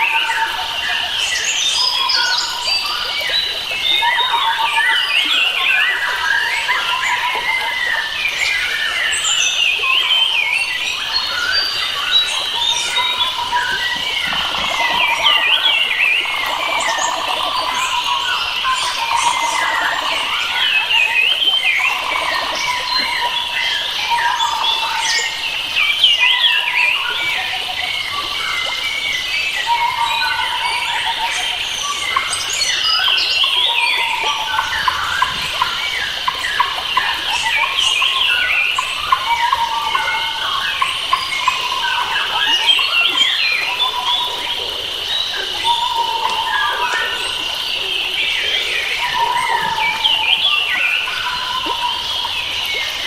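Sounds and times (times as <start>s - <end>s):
forest birds singing and chirping: 0.0s - 53.0s.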